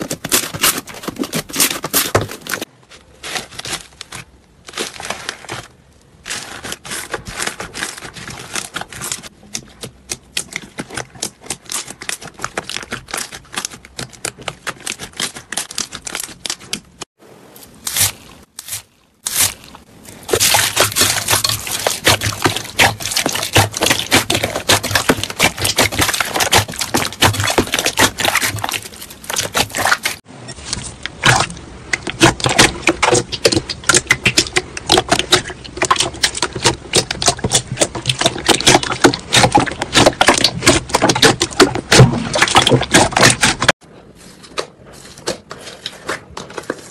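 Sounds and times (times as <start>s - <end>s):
crunchy slime crackling: 0.0s - 17.1s, 17.7s - 43.8s.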